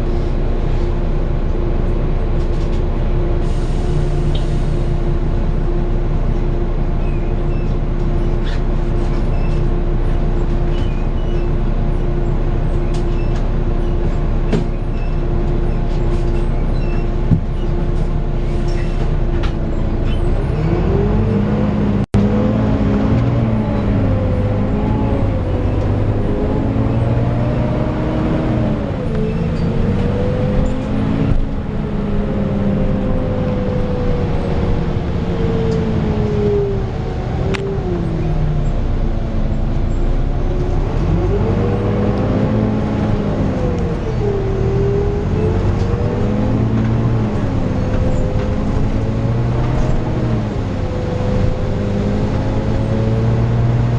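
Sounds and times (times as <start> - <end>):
bus diesel engine idling: 0.0 - 22.1, 22.7 - 53.9
bus engine accelerating: 0.0 - 53.9.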